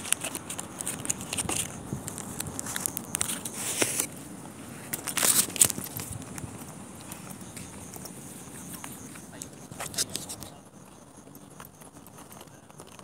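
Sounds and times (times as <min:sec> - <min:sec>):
phone handling noise against clothing: 0:00.0 - 0:10.6.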